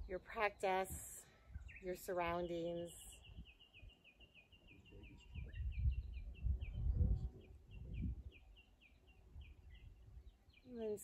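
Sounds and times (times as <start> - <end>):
small bird chirping: 1.5 - 11.0.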